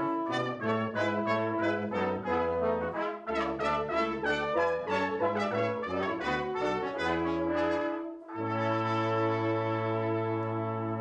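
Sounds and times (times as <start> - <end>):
brass ensemble playing: 0.0 - 11.0.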